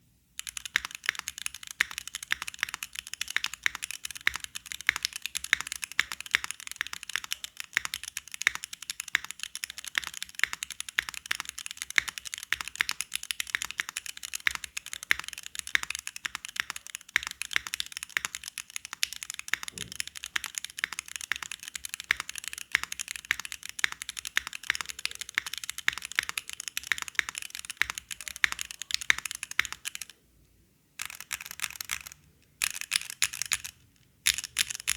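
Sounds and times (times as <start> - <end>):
mechanical keyboard typing: 0.4 - 30.2, 31.0 - 34.9.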